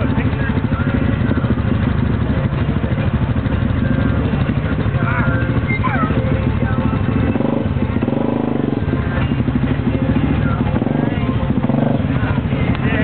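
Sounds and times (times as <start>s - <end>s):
utility vehicle engine under load: 0.0s - 13.0s.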